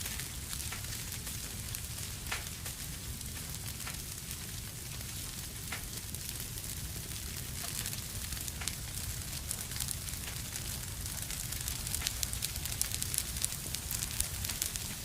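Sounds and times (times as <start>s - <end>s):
wood fire crackling and hissing: 0.0s - 15.0s.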